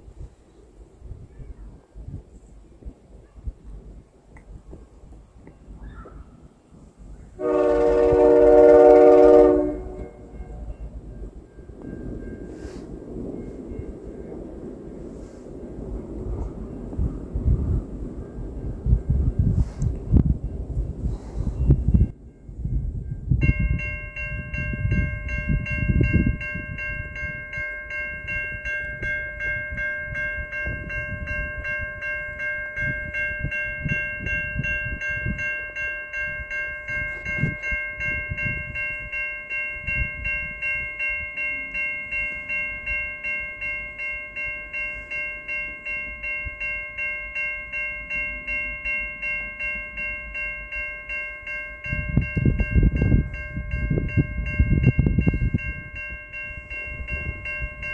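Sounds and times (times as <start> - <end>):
locomotive bell ringing: 7.4 - 19.5, 21.5 - 57.9.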